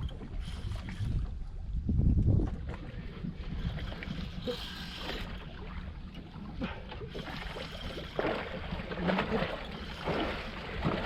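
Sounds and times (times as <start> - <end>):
water sloshing around boat: 0.0 - 11.0.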